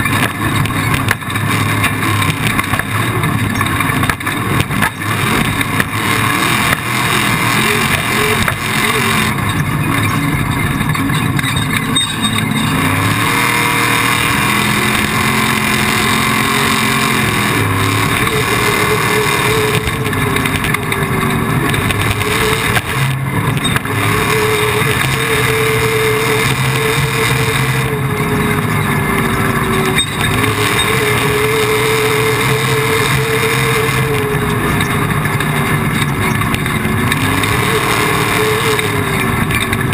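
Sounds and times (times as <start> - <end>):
engine revving: 0.0 - 39.9
steady rushing noise: 0.0 - 39.9.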